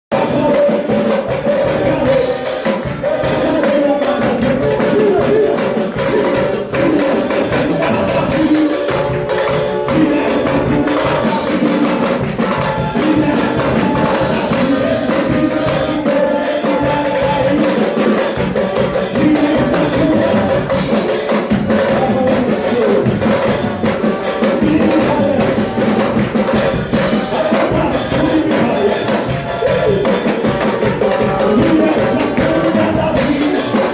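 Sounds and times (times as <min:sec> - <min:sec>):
band playing music: 0:00.1 - 0:33.9
hand percussion: 0:00.1 - 0:33.9.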